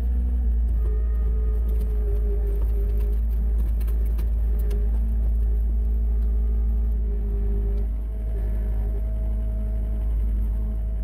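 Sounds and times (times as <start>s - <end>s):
machine engine deep rumble: 0.0s - 11.0s.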